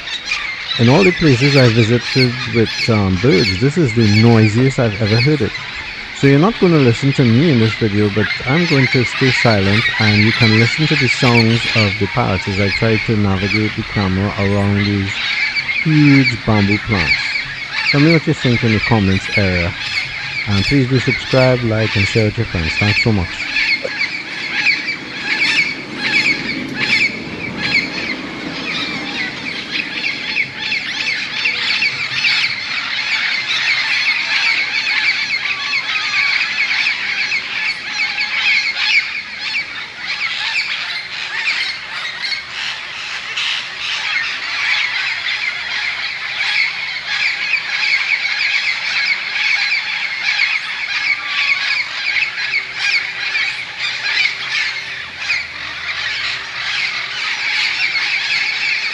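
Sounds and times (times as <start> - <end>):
flock of parrots squawking: 0.0 - 58.9.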